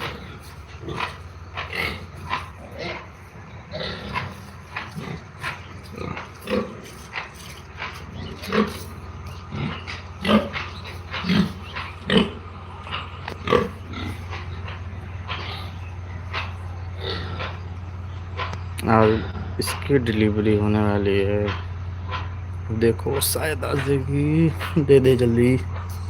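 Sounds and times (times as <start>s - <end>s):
pigs grunting and squealing: 0.0s - 26.0s
steady low hum: 0.0s - 26.0s.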